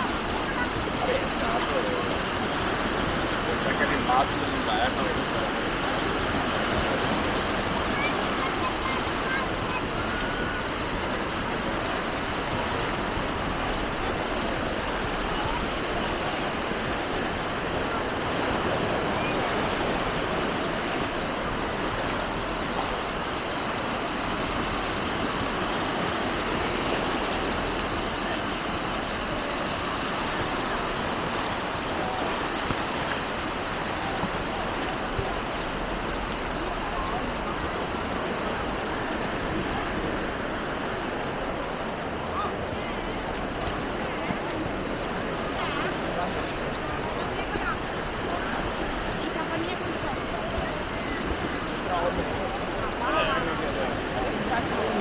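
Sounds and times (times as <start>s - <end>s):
busy beach ambience: 0.0s - 55.0s.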